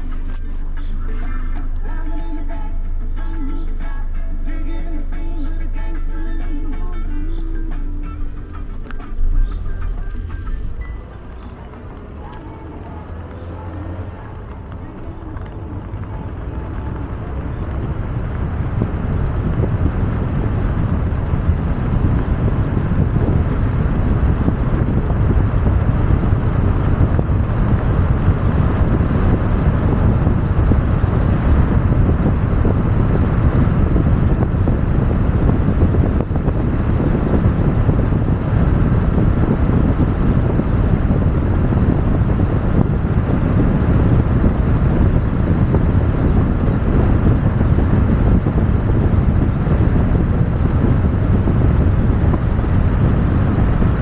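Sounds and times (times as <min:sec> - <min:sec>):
car road noise rumble: 0:00.0 - 0:54.0
wind buffeting microphone: 0:08.0 - 0:54.0.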